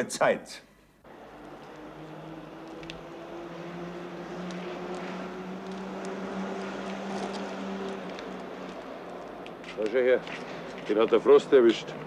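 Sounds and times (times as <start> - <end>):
engine drone: 1.0 - 10.8.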